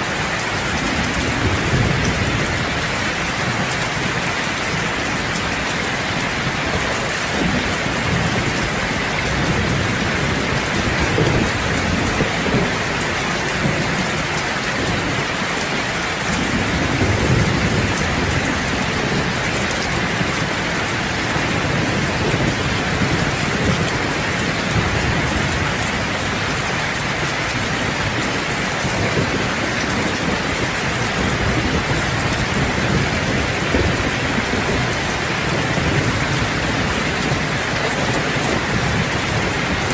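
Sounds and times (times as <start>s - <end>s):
heavy rain drumming on roof: 0.0s - 39.9s
low rolling thunder: 0.0s - 39.9s.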